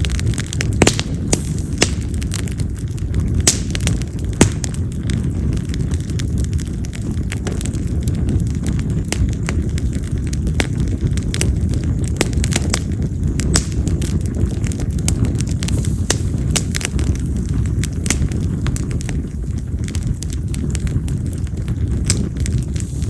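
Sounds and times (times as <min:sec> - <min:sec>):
campfire crackling and popping: 0:00.0 - 0:23.0
low fire rumble: 0:00.0 - 0:23.0.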